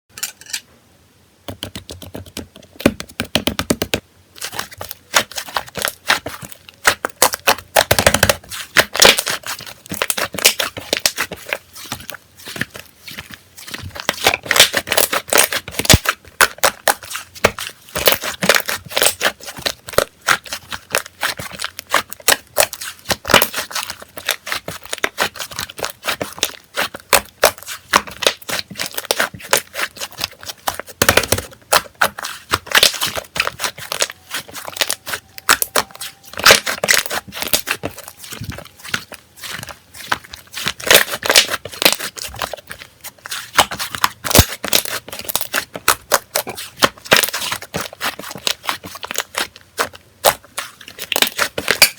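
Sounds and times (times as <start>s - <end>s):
slime squished by hand: 4.4s - 51.9s.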